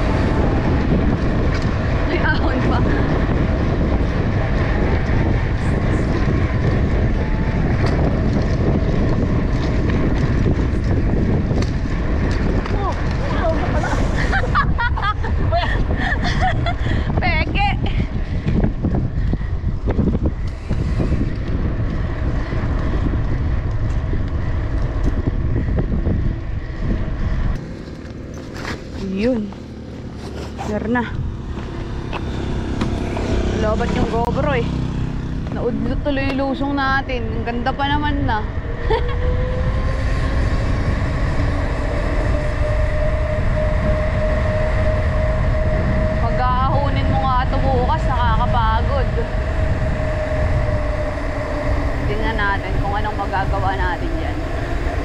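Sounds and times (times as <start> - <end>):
steady hum rising in pitch: 0.0 - 55.0
wind buffeting microphone: 0.0 - 55.0.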